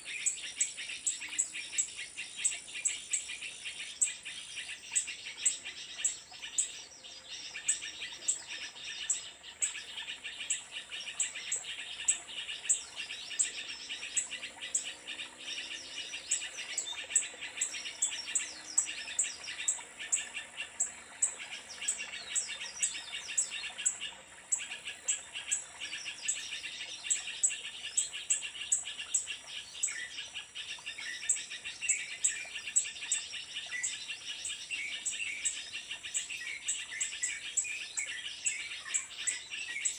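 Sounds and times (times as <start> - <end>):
crickets and insects droning: 0.0 - 39.9
small birds chirping: 0.0 - 39.9.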